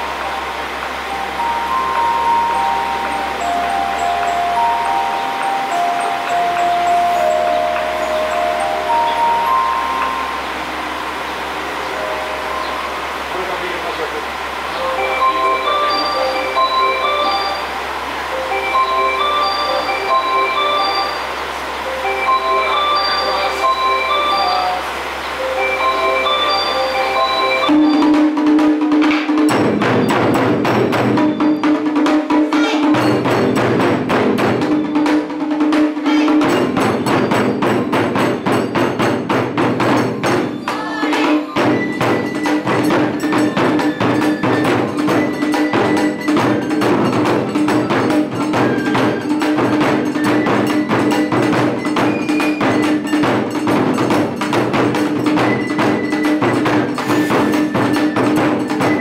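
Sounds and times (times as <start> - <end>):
taiko drums playing: 0.0 - 59.0.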